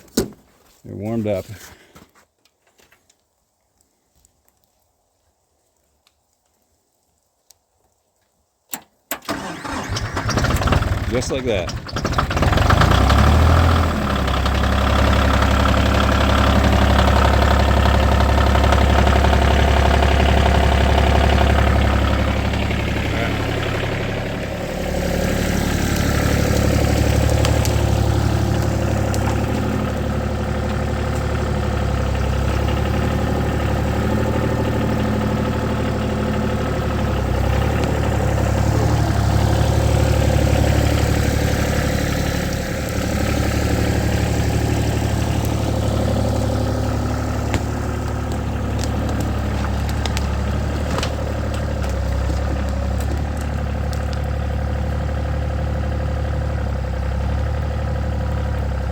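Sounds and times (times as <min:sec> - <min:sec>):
diesel tractor engine running: 0:09.2 - 0:58.9.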